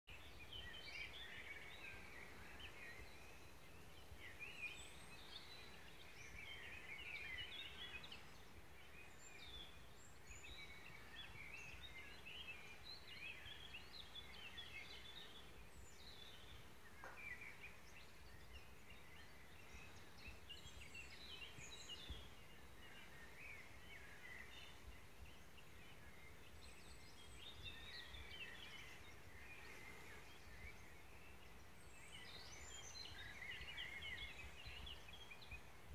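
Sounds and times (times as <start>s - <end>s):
songbirds chirping and twittering: 0.0s - 35.9s.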